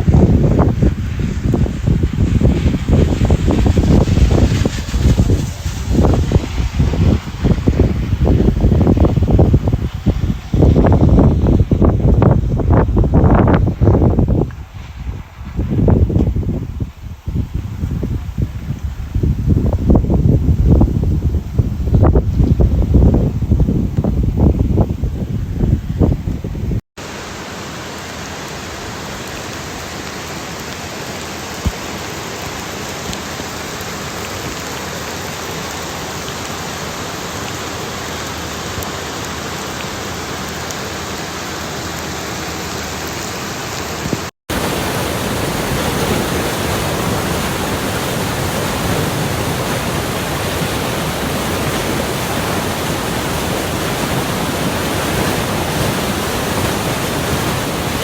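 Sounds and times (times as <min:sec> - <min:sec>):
rain and running rainwater: 0:00.0 - 0:58.0.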